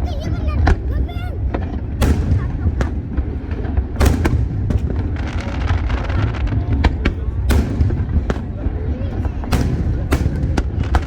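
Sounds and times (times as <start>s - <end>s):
constant low rumble: 0.0s - 11.0s
fireworks bangs: 0.0s - 11.0s.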